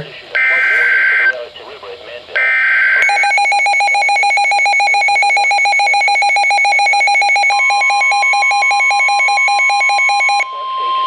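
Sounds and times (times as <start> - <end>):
electronic alarm tone pulsing: 0.4 - 1.3, 2.4 - 11.0
steady warning alarm tone: 0.4 - 1.3, 2.4 - 11.0.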